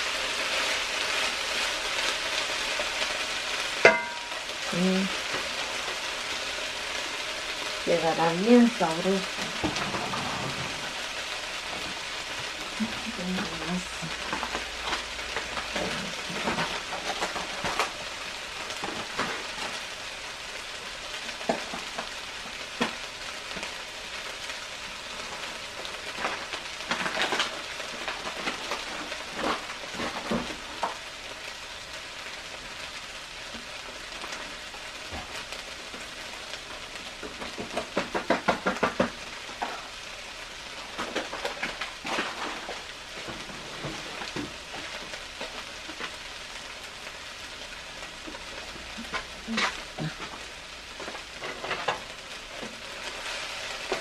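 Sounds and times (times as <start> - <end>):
food sizzling in a pot: 0.0 - 54.0
oil pops and crackles: 9.2 - 54.0.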